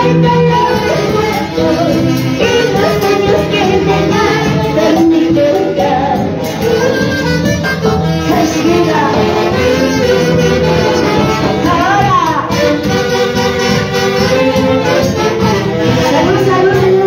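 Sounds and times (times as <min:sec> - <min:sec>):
drum kit: 0:00.0 - 0:17.0
saxophones: 0:00.0 - 0:17.0
woman singing into a microphone: 0:00.0 - 0:17.0.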